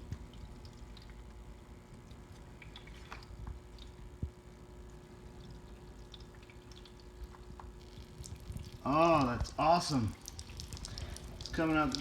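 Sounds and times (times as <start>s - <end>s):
steady low hum: 0.0s - 12.0s
water dripping: 0.0s - 12.0s.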